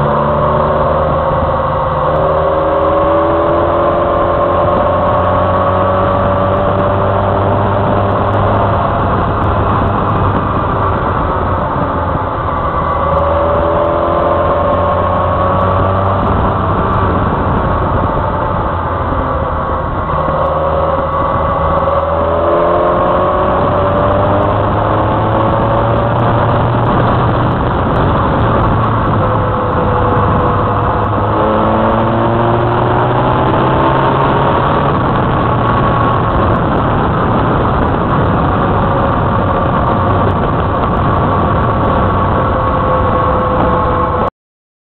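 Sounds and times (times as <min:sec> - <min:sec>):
motorcycle engine accelerating: 0:00.0 - 0:44.3
wind and road noise: 0:00.0 - 0:44.3.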